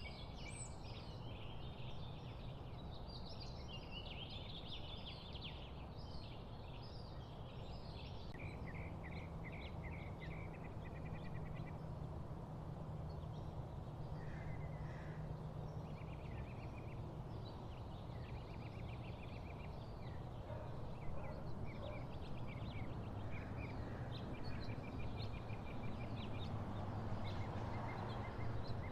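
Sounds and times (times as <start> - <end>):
wild birds singing: 0.0 - 28.9.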